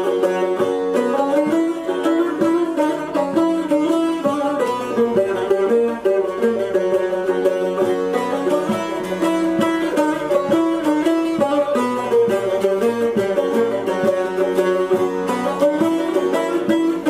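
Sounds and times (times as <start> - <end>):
plucked long-necked lutes melody: 0.0 - 17.0.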